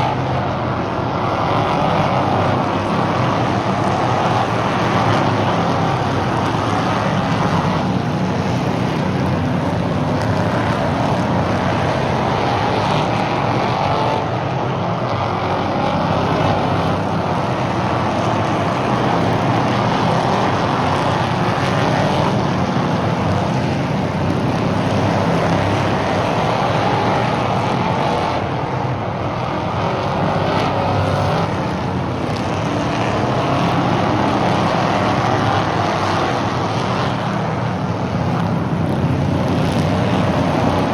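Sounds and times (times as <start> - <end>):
race car engines running hard: 0.0 - 40.9.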